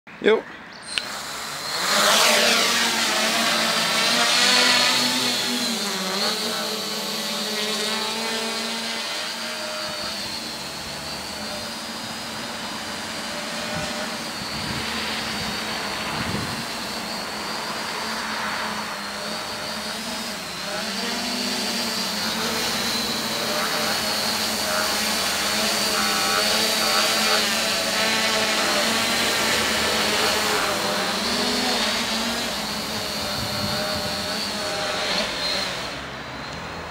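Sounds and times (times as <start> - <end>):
quadcopter motors buzzing: 0.3 - 36.9.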